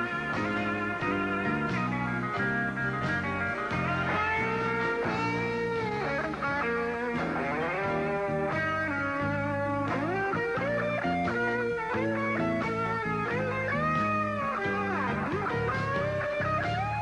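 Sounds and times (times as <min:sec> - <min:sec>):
instrumental country music: 0:00.0 - 0:17.0
sliding guitar lead: 0:00.0 - 0:17.0.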